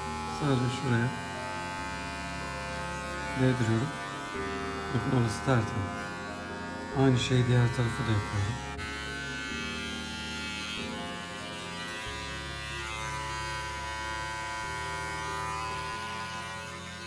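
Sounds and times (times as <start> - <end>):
electric pet trimmer buzzing: 0.0 - 17.0.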